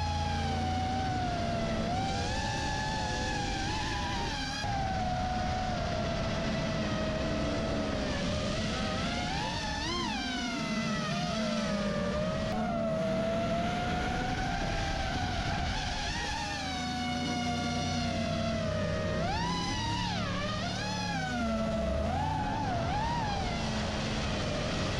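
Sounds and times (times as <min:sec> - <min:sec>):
drone motors whining: 0:00.0 - 0:24.9
low engine drone: 0:00.0 - 0:24.9.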